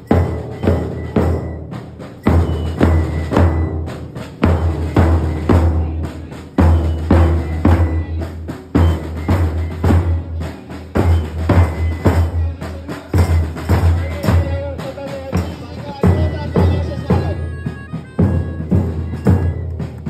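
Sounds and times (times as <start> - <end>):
bass drum beats: 0.0 - 20.0
snare drum beats: 0.0 - 20.0.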